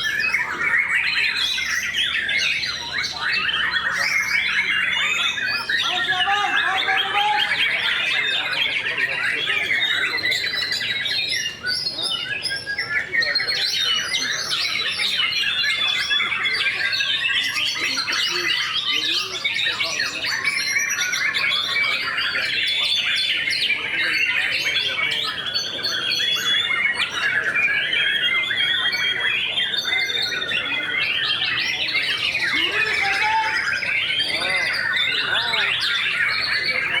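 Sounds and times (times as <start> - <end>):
many songbirds singing: 0.0 - 37.0.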